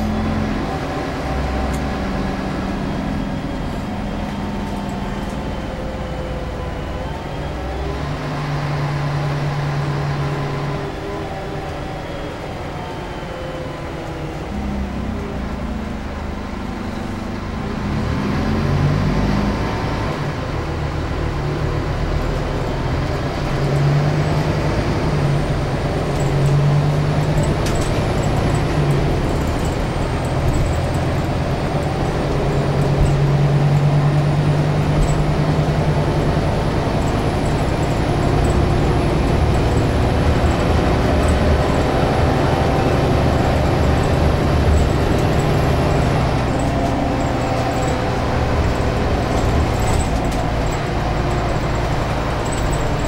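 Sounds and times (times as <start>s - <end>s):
bus diesel engine droning: 0.0s - 53.0s
road and tyre noise: 0.0s - 53.0s.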